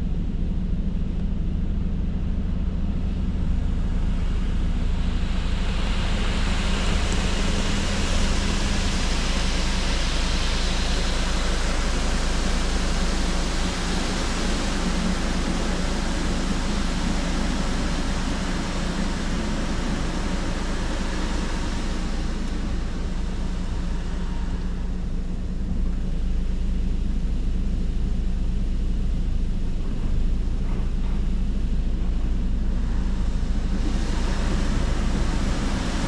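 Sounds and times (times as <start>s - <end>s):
low machinery rumble: 0.0s - 36.0s
water spraying over car: 2.9s - 36.0s.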